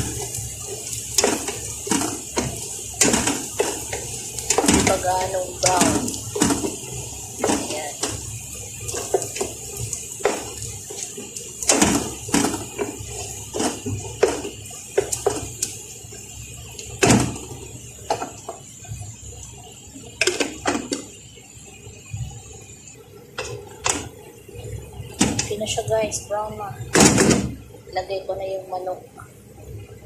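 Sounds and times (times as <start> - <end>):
onions sizzling in a frying pan: 0.0 - 30.0.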